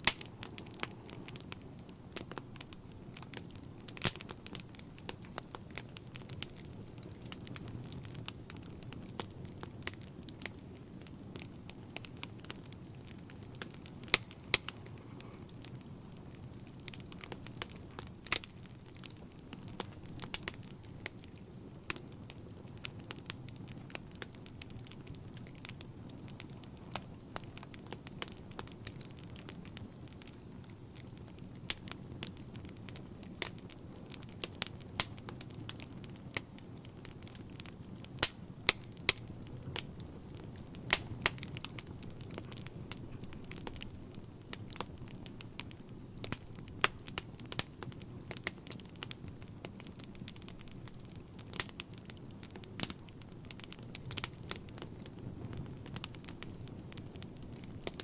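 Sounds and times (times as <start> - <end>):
fire popping: 0.0 - 58.0
fireplace fire crackling: 0.0 - 58.0.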